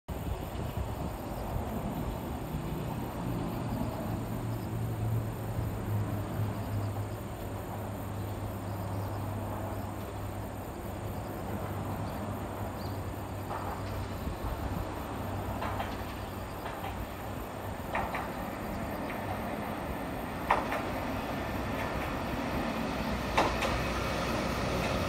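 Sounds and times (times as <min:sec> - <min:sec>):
insects chirping faintly: 0:00.1 - 0:25.0.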